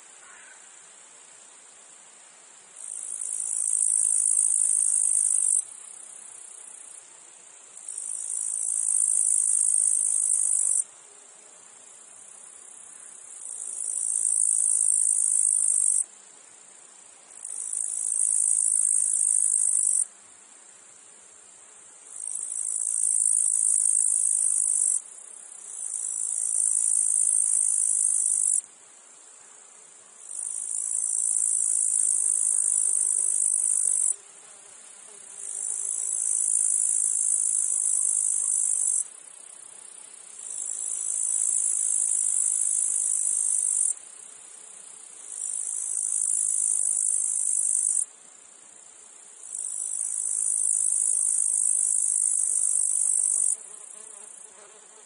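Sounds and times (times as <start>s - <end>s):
cicadas buzzing: 0.0s - 0.9s, 2.8s - 7.0s, 7.8s - 10.9s, 12.0s - 16.1s, 17.3s - 20.1s, 21.8s - 55.0s.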